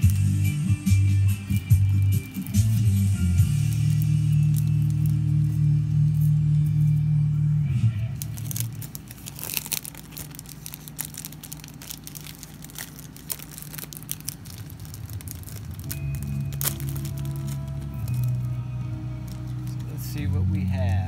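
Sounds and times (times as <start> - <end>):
plastic sleeve crinkling: 0.0 - 21.0.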